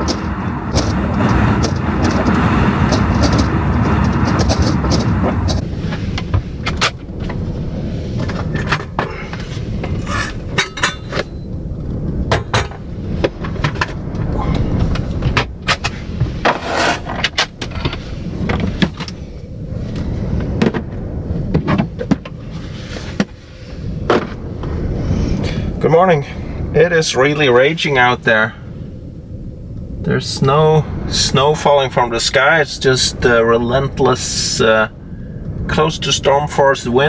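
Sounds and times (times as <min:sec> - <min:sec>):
blizzard wind buffeting van: 0:00.0 - 0:37.0.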